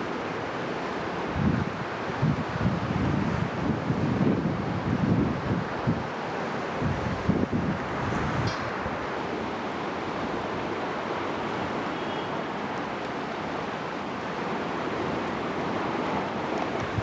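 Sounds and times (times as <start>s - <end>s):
sea water rushing: 0.0s - 17.0s
wind: 0.0s - 17.0s.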